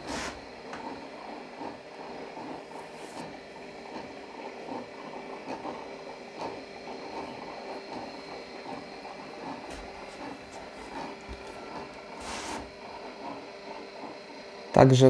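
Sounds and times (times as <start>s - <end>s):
rotating beacon motors whirring: 0.0s - 15.0s.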